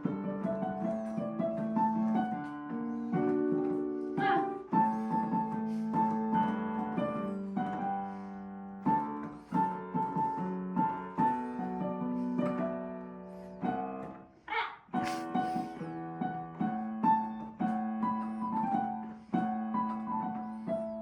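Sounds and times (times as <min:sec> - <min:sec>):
piano music: 0:00.0 - 0:14.2, 0:14.9 - 0:21.0.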